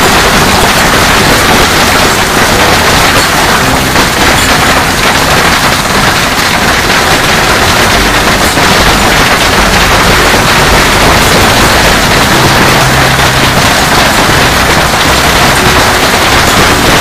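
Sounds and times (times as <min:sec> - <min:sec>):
heavy hail clattering and splashing: 0:00.0 - 0:17.0.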